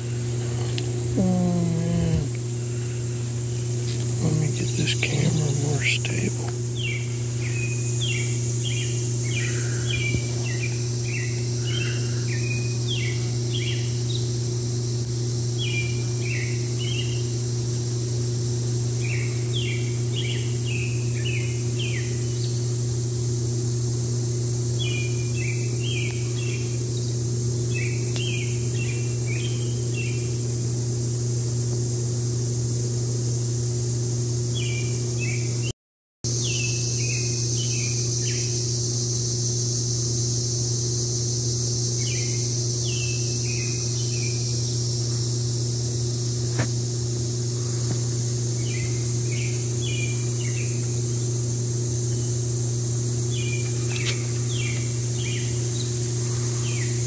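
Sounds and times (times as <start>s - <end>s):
insects droning: 0.0s - 35.7s, 36.3s - 57.0s
steady low hum: 0.0s - 35.7s, 36.3s - 57.0s.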